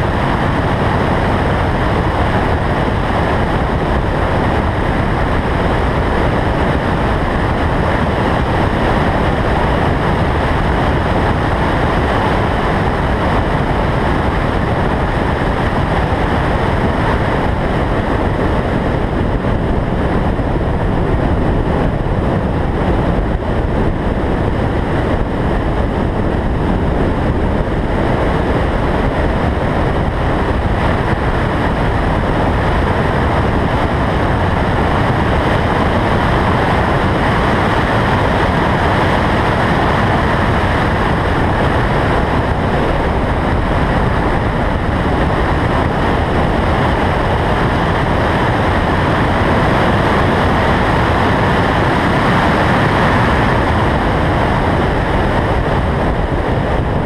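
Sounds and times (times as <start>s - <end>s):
wind rush: 0.0s - 57.0s.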